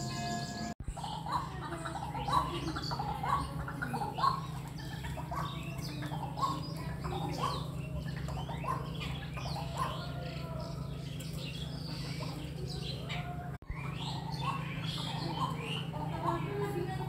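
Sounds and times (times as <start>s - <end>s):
higher bird chirps: 0.0s - 16.0s.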